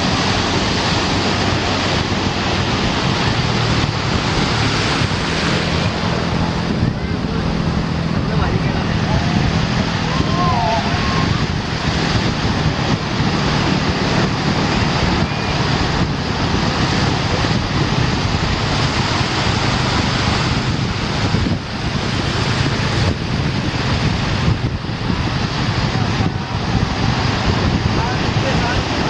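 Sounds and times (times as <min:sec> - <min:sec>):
surf washing onto beach: 0:00.0 - 0:29.0
wind buffeting microphone: 0:00.0 - 0:29.0.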